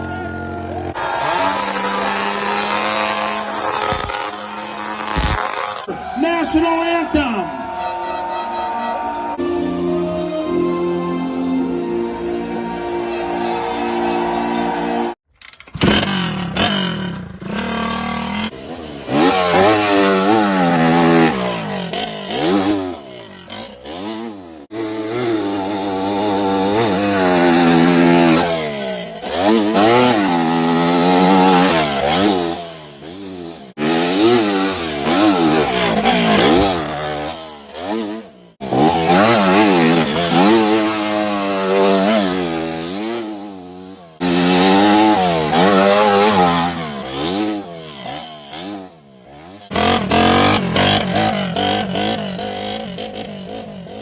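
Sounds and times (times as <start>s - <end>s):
motocross bike engines revving: 0.0s - 9.4s, 13.0s - 54.0s.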